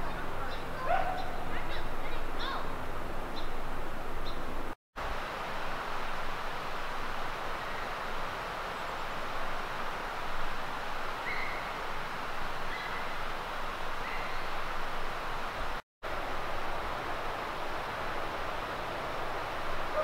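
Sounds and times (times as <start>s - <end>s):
creek flowing: 0.0s - 20.0s.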